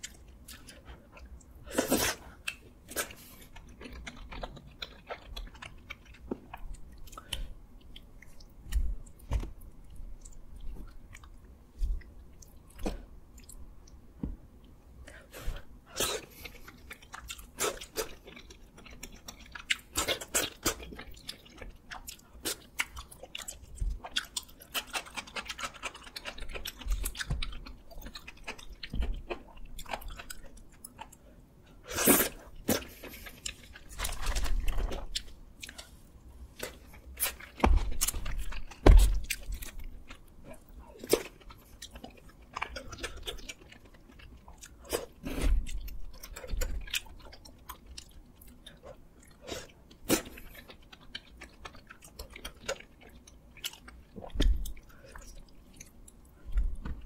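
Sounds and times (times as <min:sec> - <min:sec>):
close-up chewing: 0:00.0 - 0:14.0, 0:14.6 - 0:57.0.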